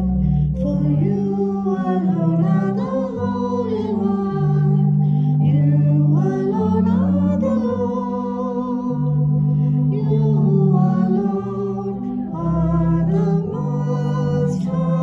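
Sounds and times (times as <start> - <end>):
held low chords: 0.0 - 15.0
voices singing a hymn: 0.0 - 15.0.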